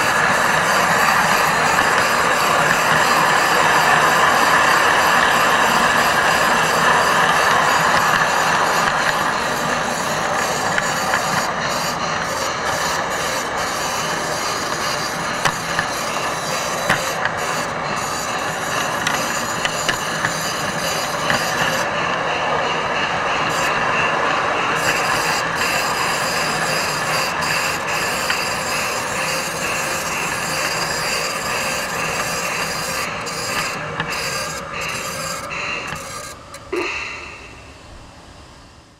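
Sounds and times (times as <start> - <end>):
model train rolling on track: 0.0 - 36.8.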